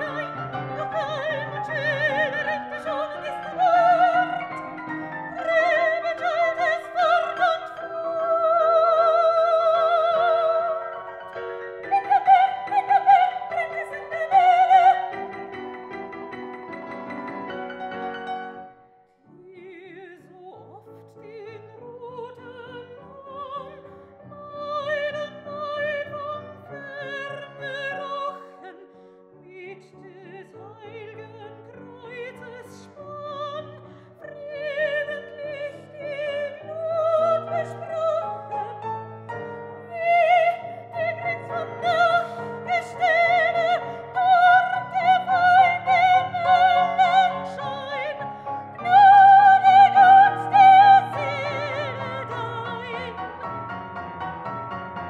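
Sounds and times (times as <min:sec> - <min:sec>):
soprano singing with vibrato: 0:00.0 - 0:18.7, 0:19.3 - 0:53.8
grand piano: 0:00.0 - 0:55.0.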